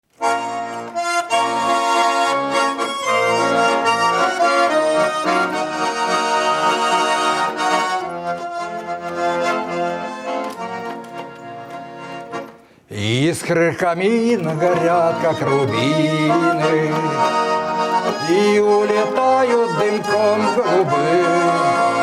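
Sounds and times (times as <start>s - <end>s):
button accordion folk melody: 0.0s - 22.0s.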